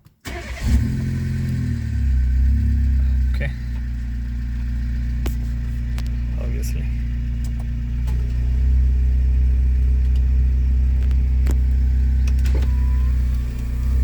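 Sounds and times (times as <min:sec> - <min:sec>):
car engine idling: 0:00.3 - 0:14.0.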